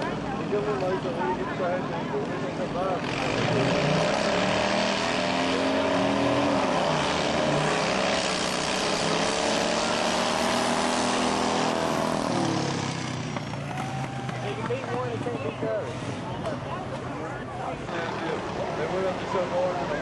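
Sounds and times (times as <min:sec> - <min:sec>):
lawnmower engine at full throttle: 0:00.0 - 0:16.2.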